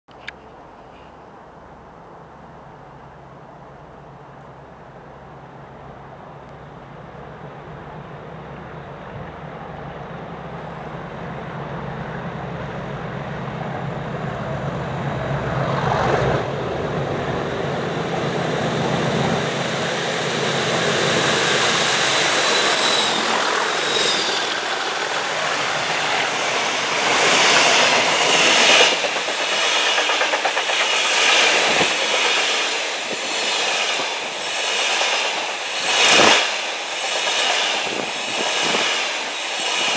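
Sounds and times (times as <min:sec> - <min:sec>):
diesel locomotives passing: 0:00.3 - 0:39.9.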